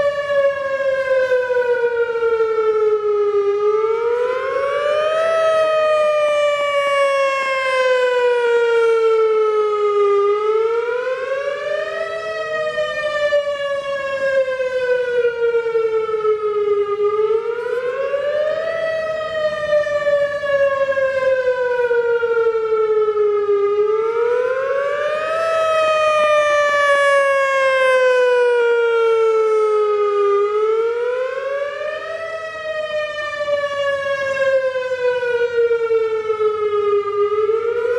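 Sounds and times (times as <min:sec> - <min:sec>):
rotating tornado siren: 0:00.0 - 0:37.9.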